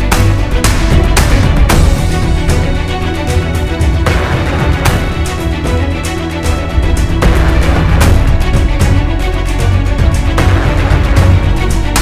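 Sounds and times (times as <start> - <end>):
music with drum hits and bass: 0.0 - 12.0.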